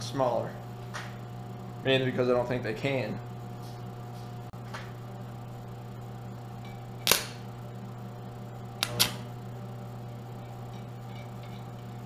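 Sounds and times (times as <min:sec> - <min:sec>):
welder electrical hum: 0:00.0 - 0:12.0.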